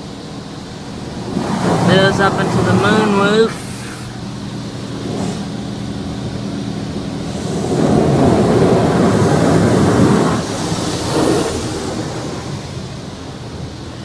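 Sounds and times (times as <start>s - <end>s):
water spraying on car: 0.0s - 14.0s.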